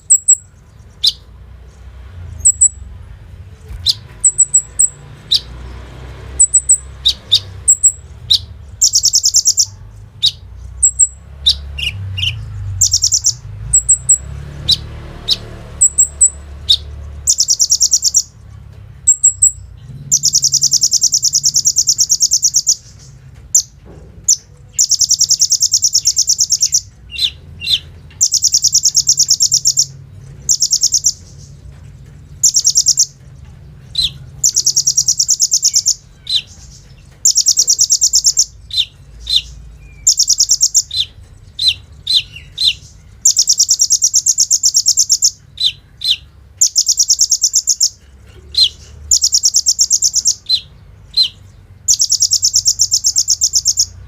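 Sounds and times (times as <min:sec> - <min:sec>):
bird chips: 0:03.5 - 0:54.0.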